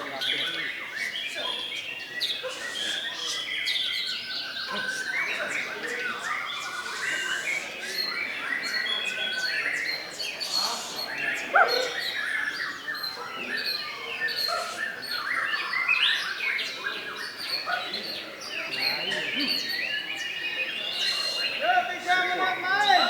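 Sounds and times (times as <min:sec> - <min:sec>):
songbirds chorus: 0:00.0 - 0:23.0.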